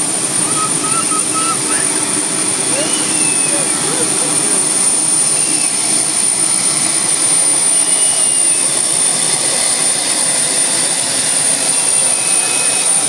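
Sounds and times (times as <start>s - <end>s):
jet turbine engine whining: 0.0s - 13.0s.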